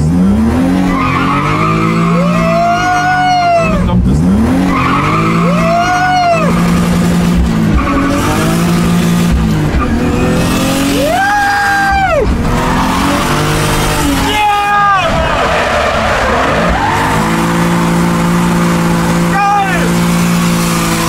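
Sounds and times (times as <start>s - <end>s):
car engine revving: 0.0s - 21.0s
tyres skidding: 0.0s - 21.0s.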